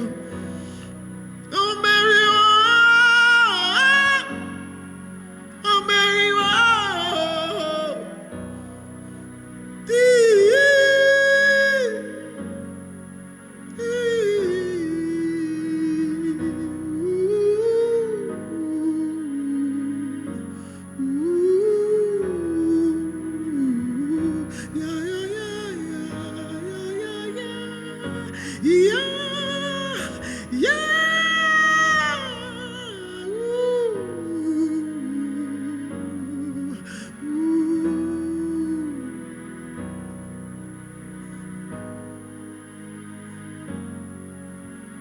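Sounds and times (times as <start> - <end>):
gospel singing: 0.0 - 40.6
soft keyboard chords: 0.0 - 45.0.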